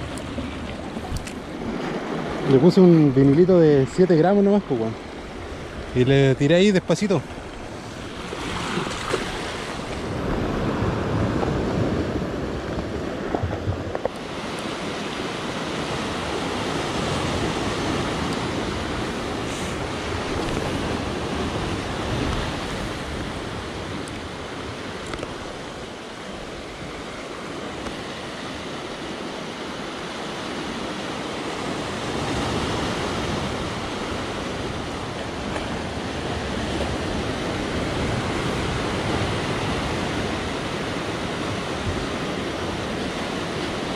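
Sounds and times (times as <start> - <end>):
surf washing against rocks: 0.0 - 43.9.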